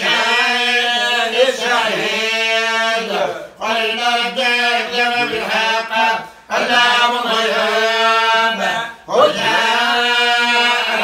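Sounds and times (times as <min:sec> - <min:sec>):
man chanting: 0:00.0 - 0:11.0.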